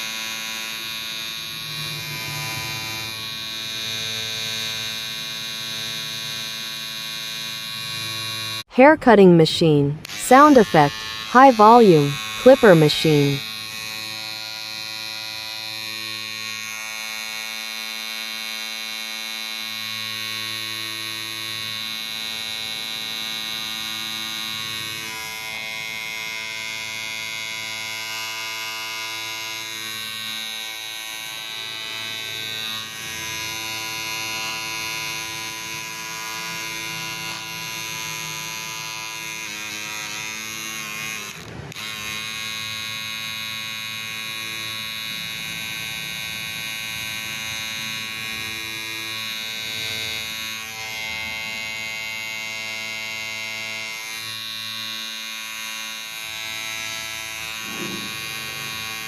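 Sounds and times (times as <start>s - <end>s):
electric hair clipper buzzing: 0.0s - 8.6s, 10.0s - 11.3s, 12.2s - 12.4s, 13.4s - 59.0s.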